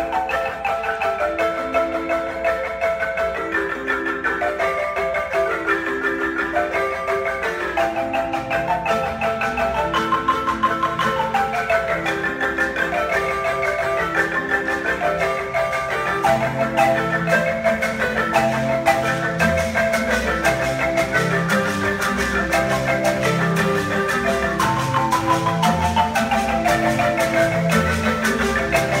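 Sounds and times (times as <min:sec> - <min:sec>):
low bass marimba notes: 0:00.0 - 0:29.0
wooden marimbas playing: 0:00.0 - 0:29.0.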